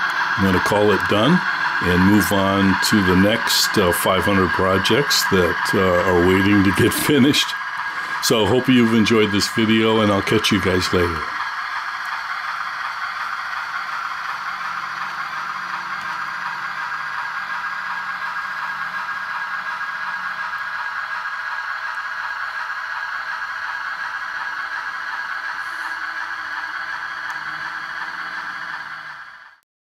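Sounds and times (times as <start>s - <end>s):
model train whirring and rattling: 0.0s - 29.6s.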